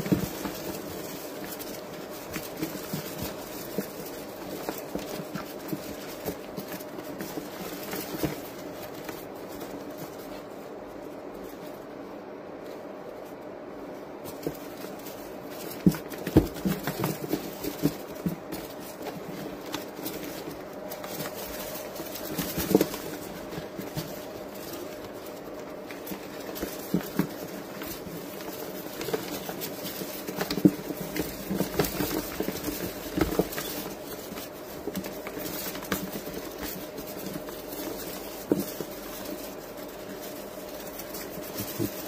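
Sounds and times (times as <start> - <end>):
mice scratching on wood shavings: 0.0 - 42.0
steady low hum: 0.0 - 42.0.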